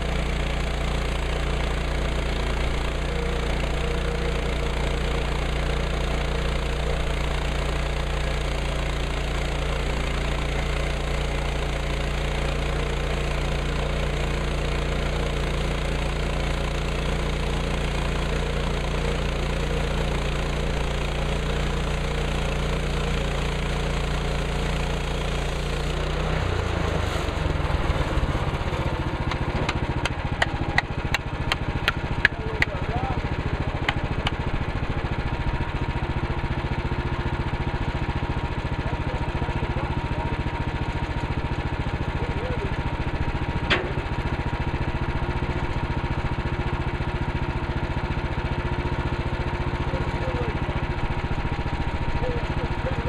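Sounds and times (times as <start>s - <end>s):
sawmill engine running: 0.0s - 53.0s.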